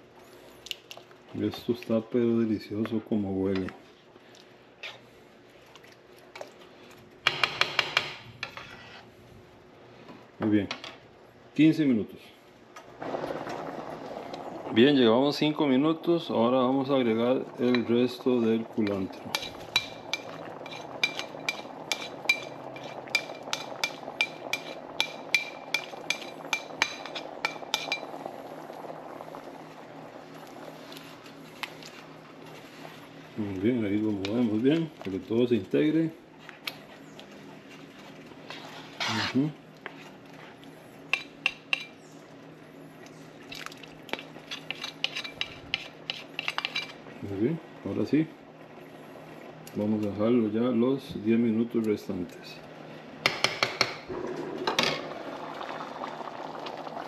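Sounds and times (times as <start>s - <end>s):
beans simmering: 0.0s - 57.0s
steady low hum: 0.0s - 57.0s.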